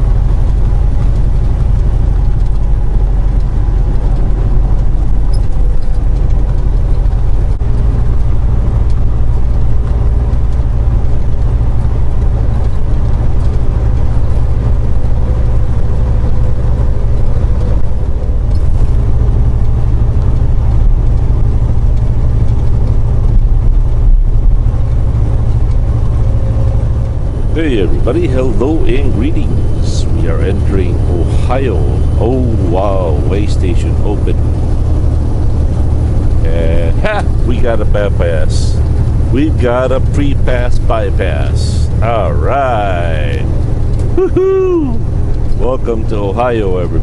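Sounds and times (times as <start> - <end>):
road noise: 0.0 - 47.0
truck diesel engine drone: 0.0 - 47.0.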